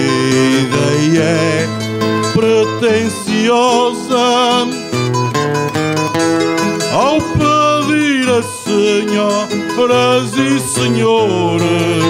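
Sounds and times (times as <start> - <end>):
man singing melismatic line: 0.0 - 5.0, 6.7 - 12.0
plucked string accompaniment: 0.0 - 12.0.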